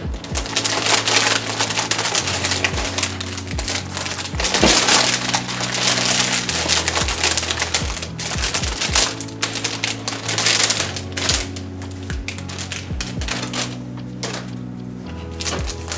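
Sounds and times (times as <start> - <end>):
packaging crinkling and rustling: 0.0 - 15.9.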